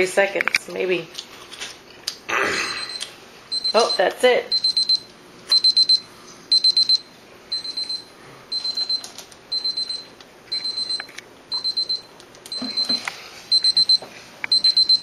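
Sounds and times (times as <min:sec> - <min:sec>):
timer alarm beeping: 0:02.7 - 0:15.0.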